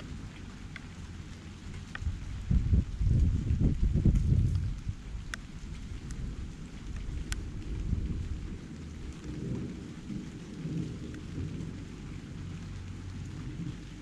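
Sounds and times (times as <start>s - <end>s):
rain hissing: 0.0s - 14.0s
thunder rumbling: 0.0s - 14.0s.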